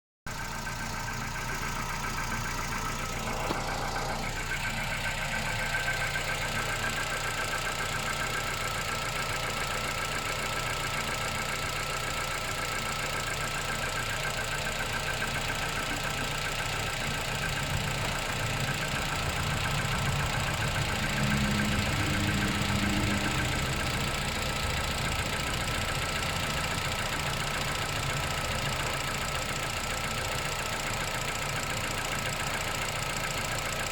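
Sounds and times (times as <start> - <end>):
engine idling: 0.3 - 33.9.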